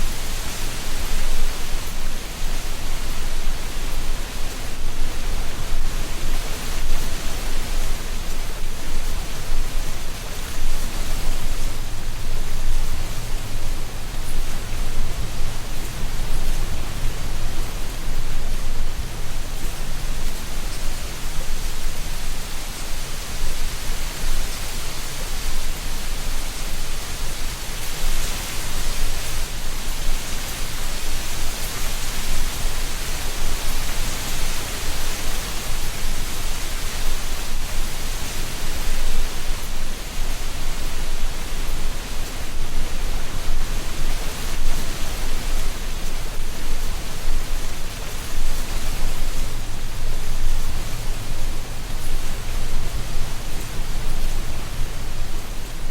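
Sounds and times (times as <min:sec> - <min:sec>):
wind rustling tree leaves: 0:00.0 - 0:55.9.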